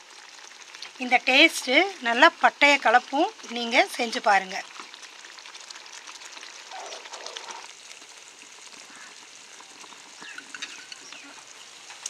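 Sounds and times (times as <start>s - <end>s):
gravy simmering and sizzling: 0.0s - 12.0s.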